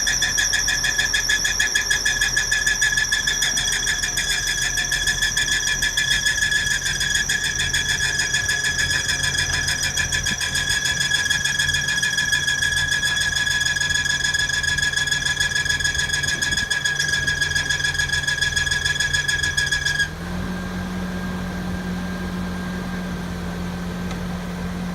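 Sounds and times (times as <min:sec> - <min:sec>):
high-pitched fluttering squeal: 0:00.0 - 0:20.2
engine humming: 0:00.0 - 0:24.9.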